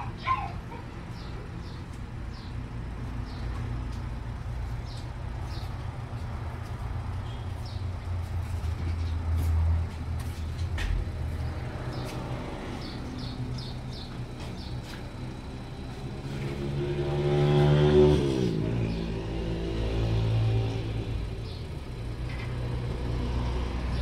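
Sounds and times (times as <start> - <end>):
motor vehicle passing: 0.0 - 24.0.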